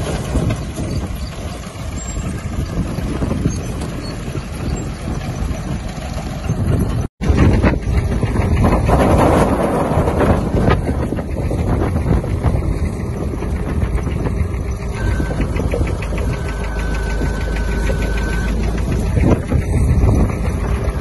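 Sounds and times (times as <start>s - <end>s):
harvester chains rattling: 0.0s - 9.3s, 9.9s - 21.0s
tractor engine running: 0.0s - 21.0s.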